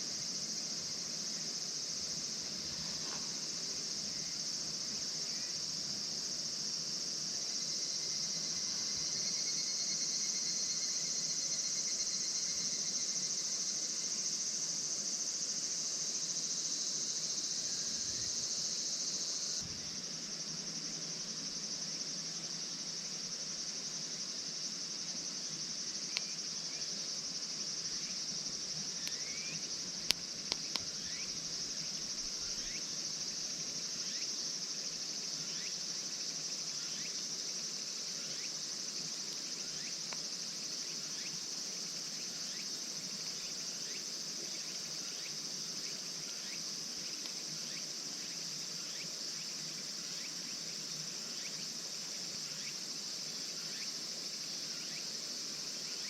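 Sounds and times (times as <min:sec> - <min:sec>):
crickets and insects chirping: 0:00.0 - 0:56.0.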